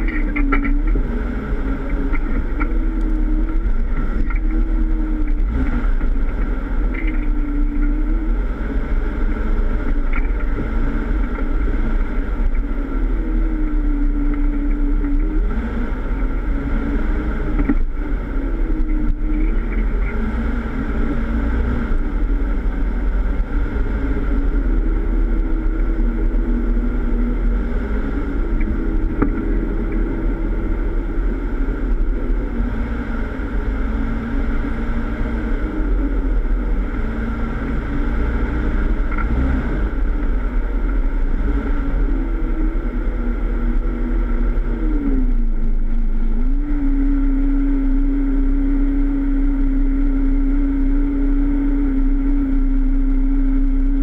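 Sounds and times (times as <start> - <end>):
car engine running at low revs: 0.0 - 54.0.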